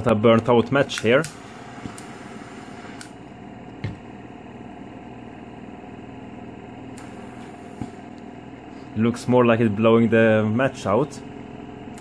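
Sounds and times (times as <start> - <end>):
oxygen concentrator humming: 0.0 - 12.0.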